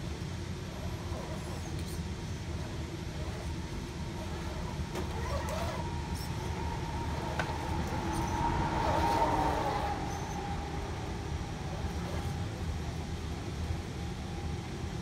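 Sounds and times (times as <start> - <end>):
steady low rumble: 0.0 - 15.0
small electric motor whining: 0.7 - 12.7.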